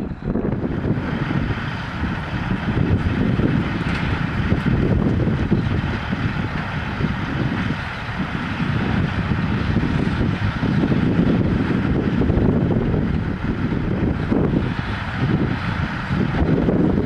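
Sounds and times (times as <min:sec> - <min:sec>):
heavy diesel engine running: 0:00.0 - 0:17.0
wind buffeting microphone: 0:00.0 - 0:17.0.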